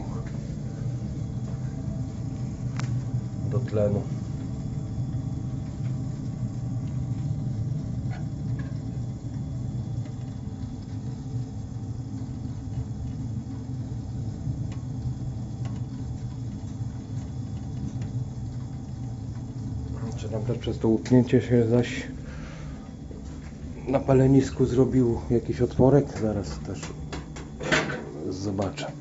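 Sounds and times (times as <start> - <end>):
boiler rumbling: 0.0 - 29.0
faint even hum: 0.0 - 29.0.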